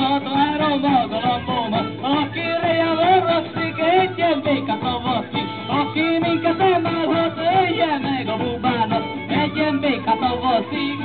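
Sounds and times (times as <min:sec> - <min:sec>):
folk band music through speakers: 0:00.0 - 0:11.0.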